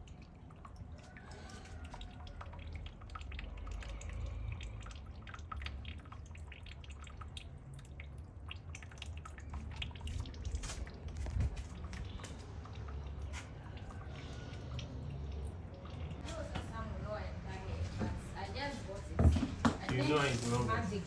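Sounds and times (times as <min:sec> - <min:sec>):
low steady hum: 0:00.0 - 0:19.2
water dripping and splashing: 0:00.0 - 0:21.0.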